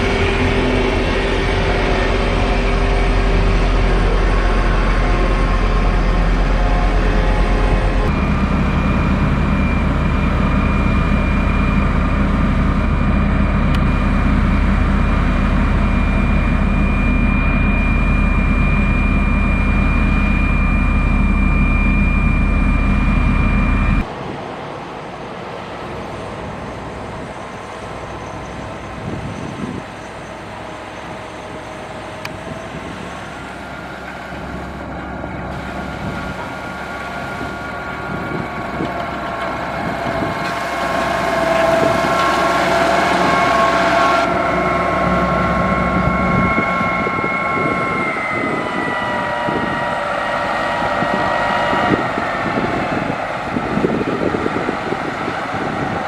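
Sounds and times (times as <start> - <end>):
diesel engine running: 0.0 - 24.1, 27.8 - 56.0
high whine: 0.0 - 24.1, 31.0 - 56.0.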